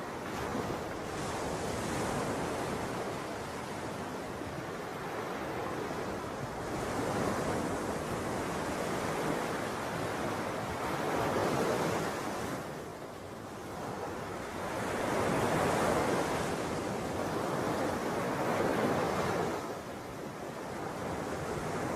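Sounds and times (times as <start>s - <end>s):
ocean waves washing: 0.0s - 21.9s.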